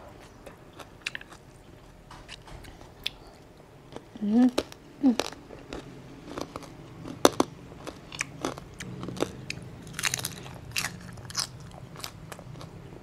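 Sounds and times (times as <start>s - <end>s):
chewing with crisp crunches: 0.1s - 13.0s.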